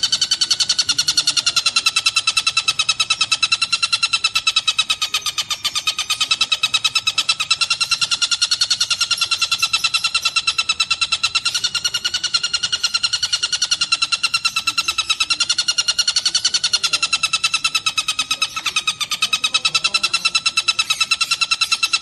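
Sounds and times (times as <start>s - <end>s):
kingfisher rattling trill: 0.0s - 22.0s.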